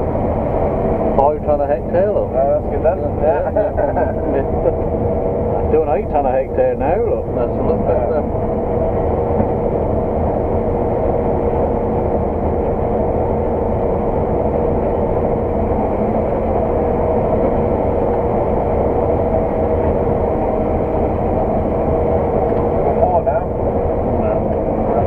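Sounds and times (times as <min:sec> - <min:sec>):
combine harvester engine drone: 0:00.0 - 0:25.0
constant machinery whine: 0:00.0 - 0:25.0.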